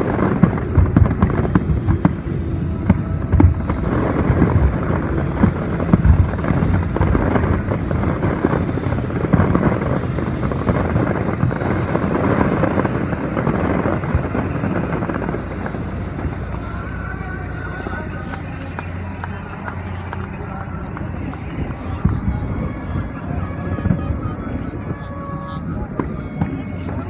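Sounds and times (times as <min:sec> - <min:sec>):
fireworks bangs: 0:00.0 - 0:27.0
rumble of overlapping bursts: 0:00.0 - 0:27.0.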